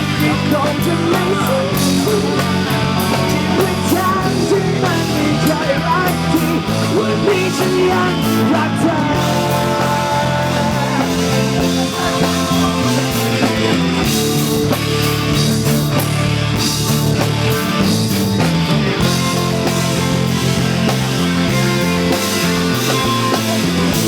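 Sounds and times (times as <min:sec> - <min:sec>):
pop-rock band playing: 0:00.0 - 0:24.0.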